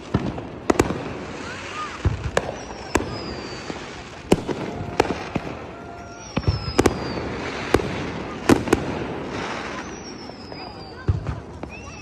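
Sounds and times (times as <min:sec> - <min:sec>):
fireworks bangs and pops: 0:00.0 - 0:12.0
fireworks crackling hiss: 0:00.0 - 0:12.0
whistling firework: 0:00.0 - 0:12.0.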